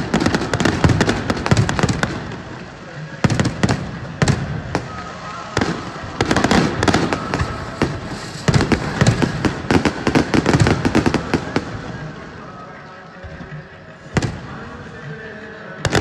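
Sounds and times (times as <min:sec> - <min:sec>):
fireworks banging and crackling: 0:00.0 - 0:16.0.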